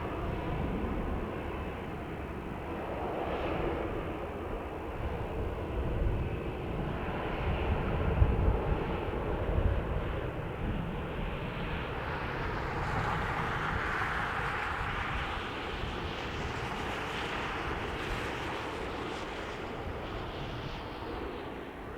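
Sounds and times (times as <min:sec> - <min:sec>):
airliner engine rush: 0:00.0 - 0:21.9.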